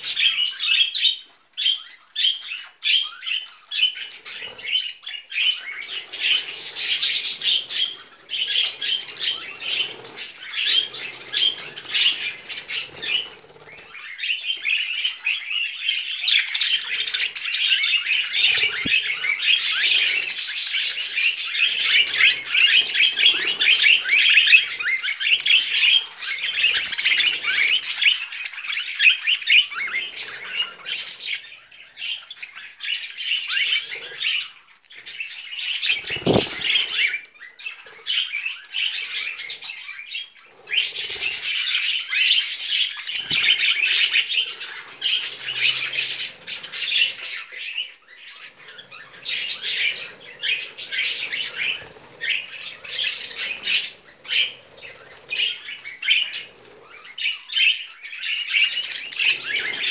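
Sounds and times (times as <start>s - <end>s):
budgerigars chirping: 0.0s - 59.9s.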